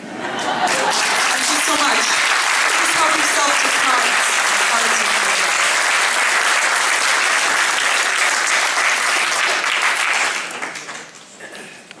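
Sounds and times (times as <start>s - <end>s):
audience applauding: 0.3s - 11.3s.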